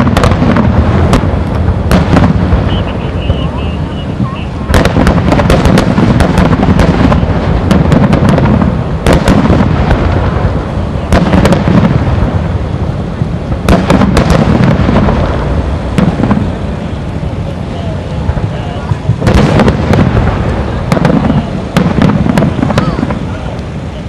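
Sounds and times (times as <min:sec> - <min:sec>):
fireworks bursting with sharp bangs: 0:00.0 - 0:24.0
low echoing rumble: 0:00.0 - 0:24.0.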